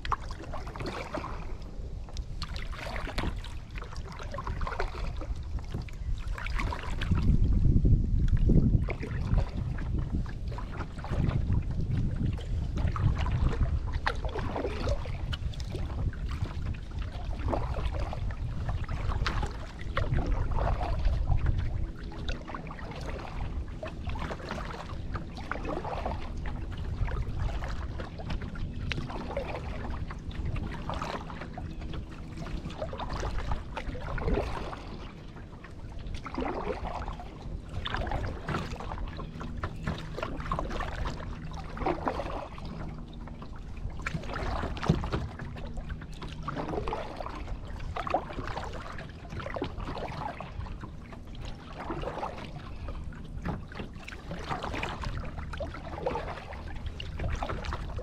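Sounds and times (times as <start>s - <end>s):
paddle splashing in water: 0.0s - 58.0s
wind buffeting microphone: 0.0s - 58.0s.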